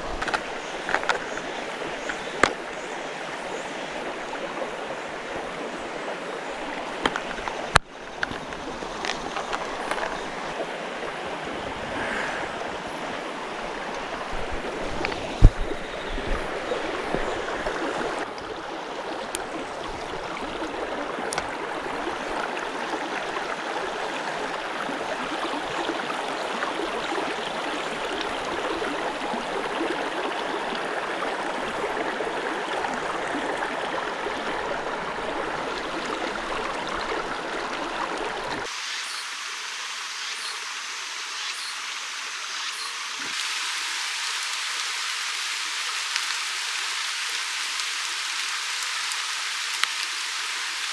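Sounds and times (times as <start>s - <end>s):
stream rushing over rocks: 0.0s - 50.9s.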